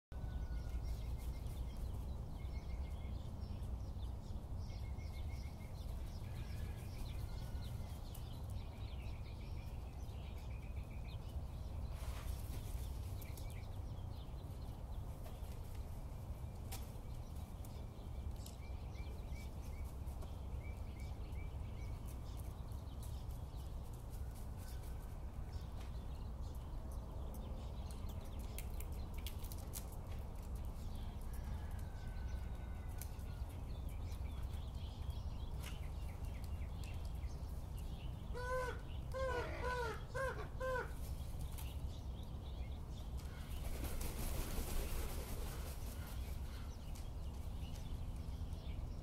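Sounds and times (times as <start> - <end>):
small birds chirping and trilling: 0.2 - 49.0.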